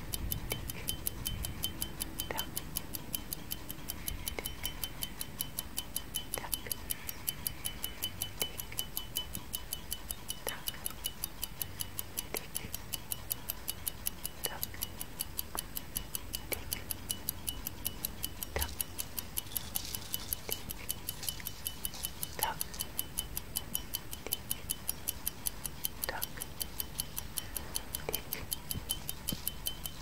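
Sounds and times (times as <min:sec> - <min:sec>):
clock ticking: 0:00.0 - 0:30.0.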